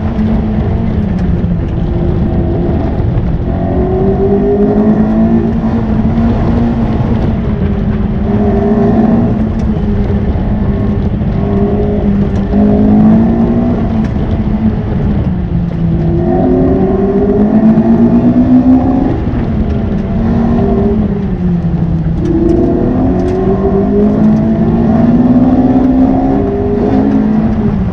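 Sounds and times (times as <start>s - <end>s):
car engine revving: 0.0s - 27.9s
road and tyre noise: 0.0s - 27.9s.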